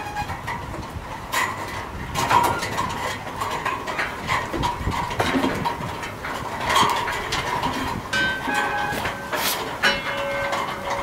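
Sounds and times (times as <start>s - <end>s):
hooves knocking on wooden boards: 0.0s - 11.0s.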